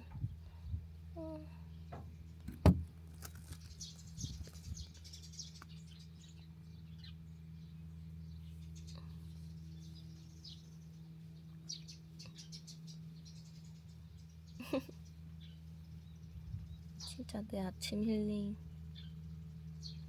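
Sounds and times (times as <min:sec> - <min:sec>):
low steady hum: 0:00.0 - 0:20.0
small birds chirping faintly: 0:03.2 - 0:20.0.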